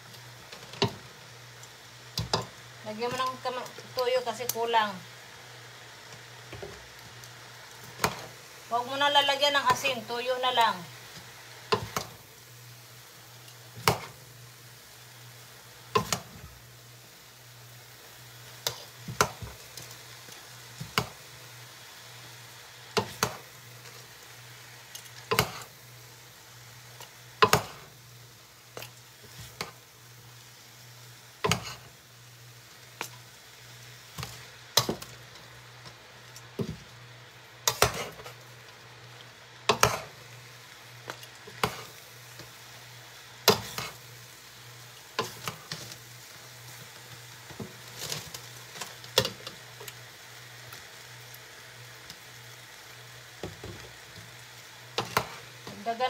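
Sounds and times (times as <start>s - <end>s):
faint sizzle: 0.0s - 56.0s.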